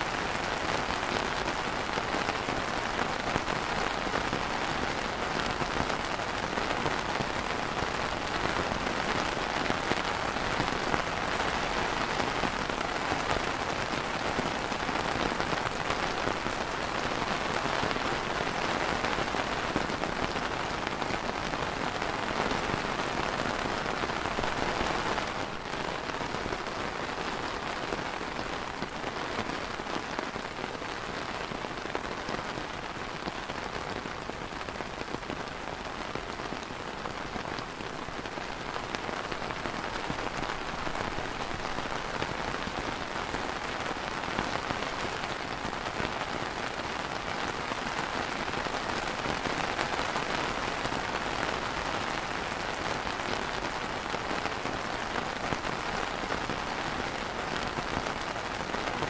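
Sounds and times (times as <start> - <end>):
rain on plastic umbrella: 0.0 - 59.0.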